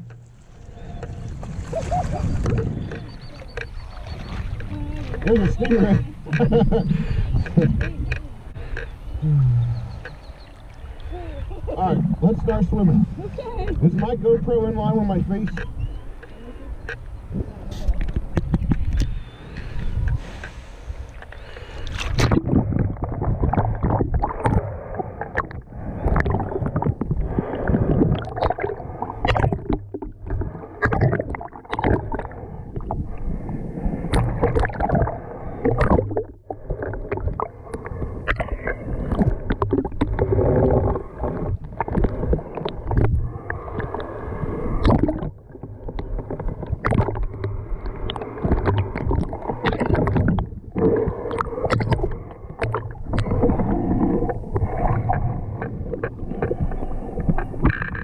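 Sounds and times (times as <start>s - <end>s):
underwater water sloshing: 0.0s - 58.0s.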